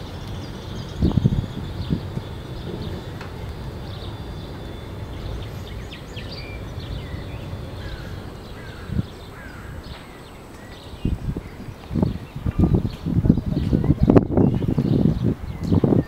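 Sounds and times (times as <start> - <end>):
helicopter rotor rumble: 0.0 - 16.0
small birds chirping: 0.0 - 16.0.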